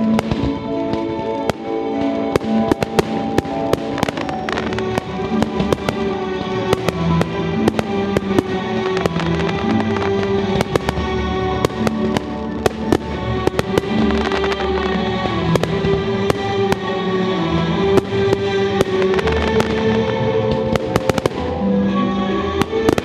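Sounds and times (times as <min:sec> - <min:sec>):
fireworks bursting: 0:00.0 - 0:23.0
music playing: 0:00.0 - 0:23.0.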